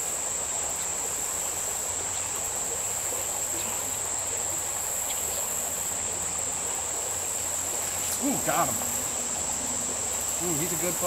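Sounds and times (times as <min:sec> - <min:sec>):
buzzing insect chorus: 0:00.0 - 0:11.0
faint stream water: 0:00.0 - 0:11.0.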